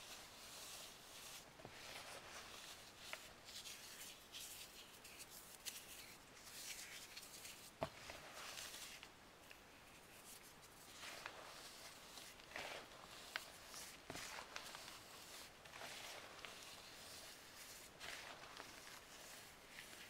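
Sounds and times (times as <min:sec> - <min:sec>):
hands crumbling dry foam: 0:00.0 - 0:20.0.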